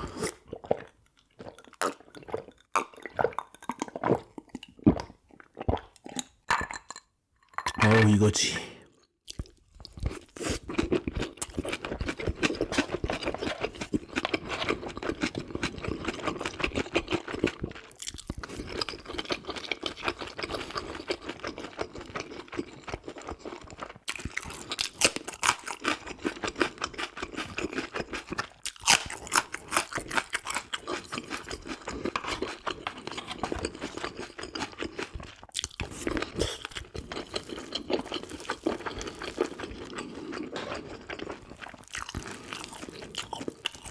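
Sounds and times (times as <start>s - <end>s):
chewing and crunching mouth noises: 0.0s - 8.2s, 8.9s - 43.9s.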